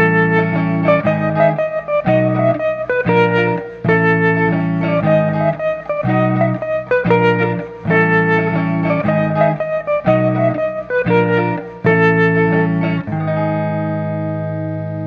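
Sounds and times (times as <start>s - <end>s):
swing music with guitar: 0.0s - 15.0s.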